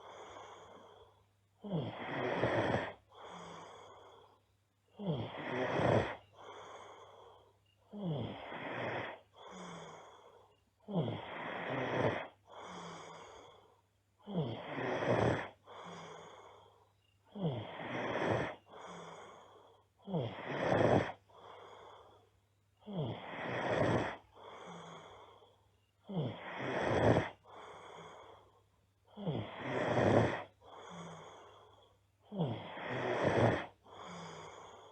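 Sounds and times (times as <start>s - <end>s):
girl snoring loudly: 0.0s - 4.2s, 4.9s - 7.2s, 7.9s - 16.7s, 17.3s - 22.2s, 22.8s - 28.5s, 29.1s - 34.9s.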